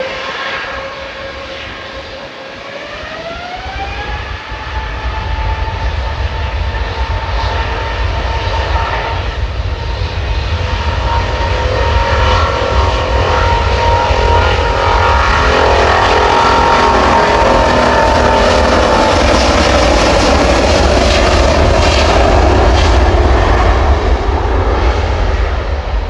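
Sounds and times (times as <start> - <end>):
jet engine deep rumble: 0.0 - 26.0
jet engine whine: 0.0 - 26.0.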